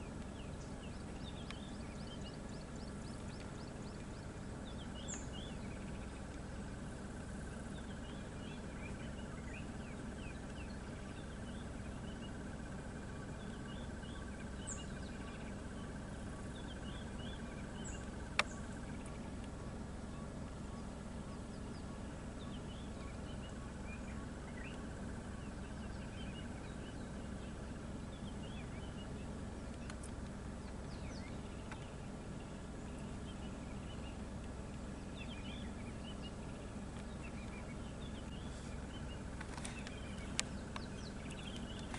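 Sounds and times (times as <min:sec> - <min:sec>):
steady low hum: 0:00.0 - 0:41.9
wild birds chirping: 0:00.0 - 0:41.9.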